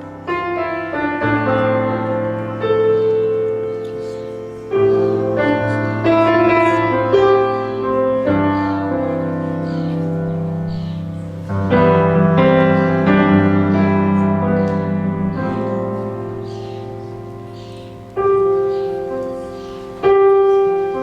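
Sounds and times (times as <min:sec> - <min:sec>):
slow worship piano music: 0:00.0 - 0:21.0.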